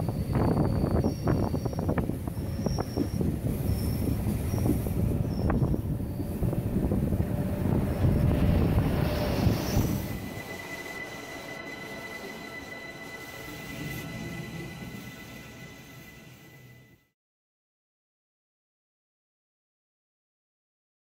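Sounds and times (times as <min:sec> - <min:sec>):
wheel squeals: 0:00.0 - 0:16.8
train rumbling on rails: 0:00.0 - 0:17.1.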